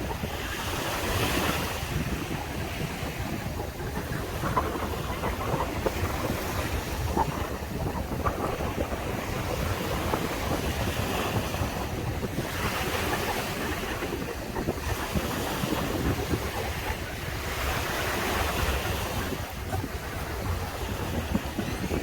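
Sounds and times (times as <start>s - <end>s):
waves breaking on sandy beach: 0.0s - 22.0s
wind buffeting microphone: 0.0s - 22.0s.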